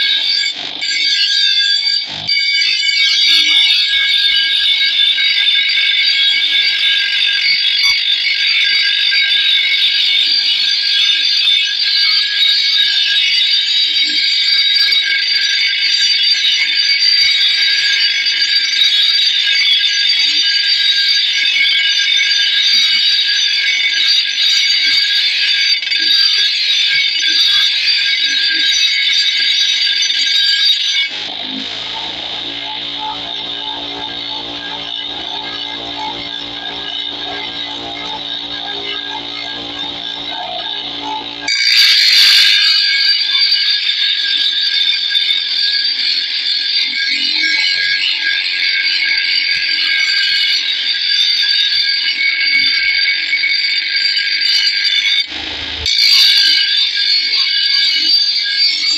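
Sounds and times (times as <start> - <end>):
blade on grinding wheel screeching: 0.0 - 58.9.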